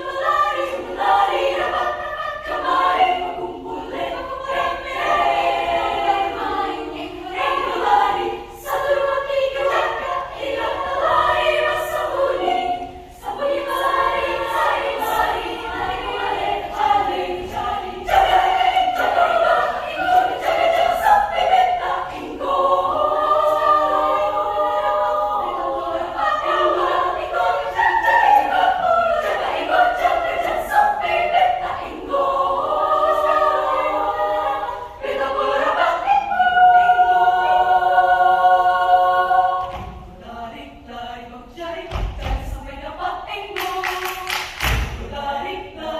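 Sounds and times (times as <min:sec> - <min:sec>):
children's choir singing: 0:00.0 - 0:45.9.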